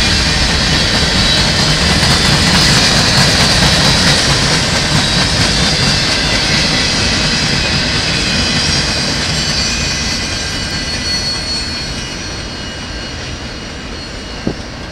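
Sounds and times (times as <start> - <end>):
freight train rumbling past: 0.0 - 14.9.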